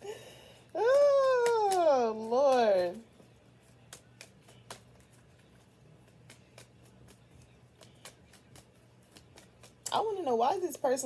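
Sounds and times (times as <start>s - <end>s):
low steady hum: 0.0s - 11.0s
cards clicking and rustling: 0.7s - 10.3s.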